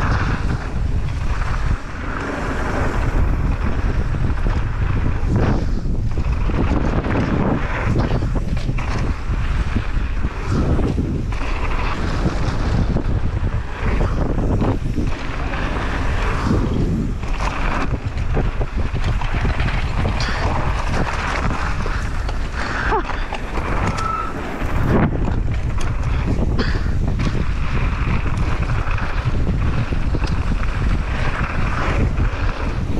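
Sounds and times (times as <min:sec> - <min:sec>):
bike rattling over bumps: 0:00.0 - 0:32.9
bike tyres on dirt: 0:00.0 - 0:32.9
wind buffeting microphone: 0:00.0 - 0:32.9.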